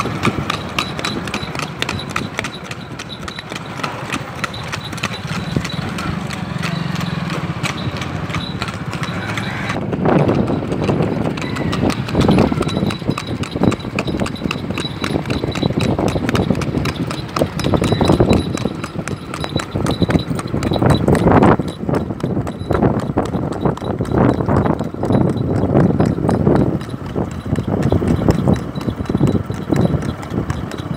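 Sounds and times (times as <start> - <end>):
horse hooves on pavement: 0.0 - 30.9.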